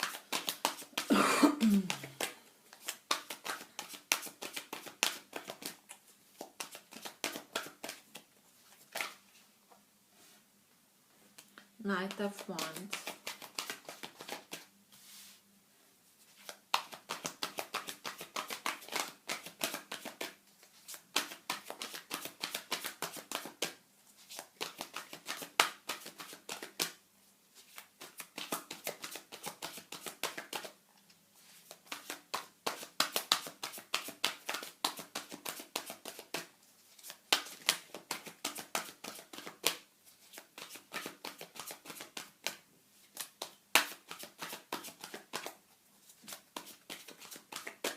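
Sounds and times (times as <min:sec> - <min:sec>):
cards being shuffled: 0:00.0 - 0:01.1, 0:01.8 - 0:09.3, 0:11.4 - 0:15.4, 0:16.3 - 0:27.0, 0:27.6 - 0:30.8, 0:31.6 - 0:47.9.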